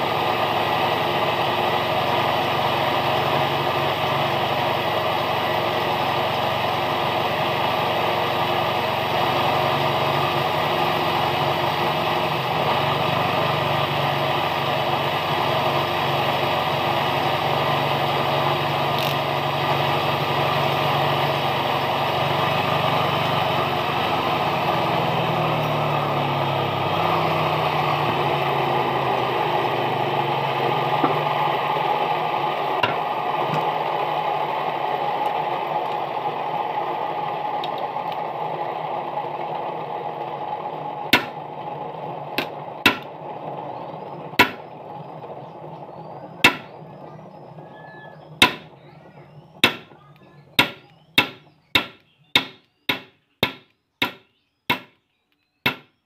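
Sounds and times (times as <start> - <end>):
bench grinder running: 0.0 - 54.9.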